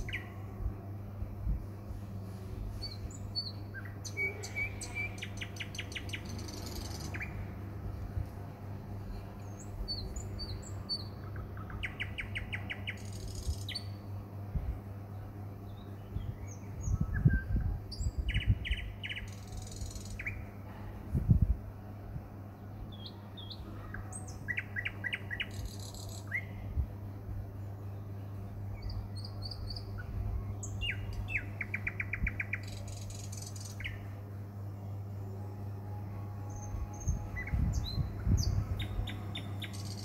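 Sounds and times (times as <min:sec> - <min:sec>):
birds chirping and trilling: 0:00.0 - 0:00.6, 0:01.9 - 0:07.8, 0:09.0 - 0:14.2, 0:15.0 - 0:21.0, 0:22.5 - 0:35.2, 0:36.4 - 0:40.0
steady low hum: 0:00.0 - 0:40.0.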